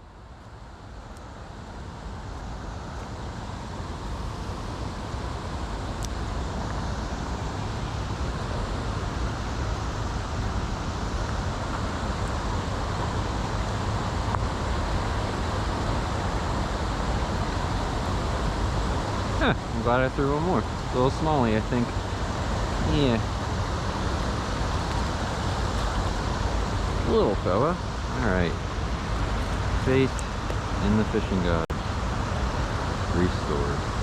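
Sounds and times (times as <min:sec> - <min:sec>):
creek water flowing: 0:00.0 - 0:34.0.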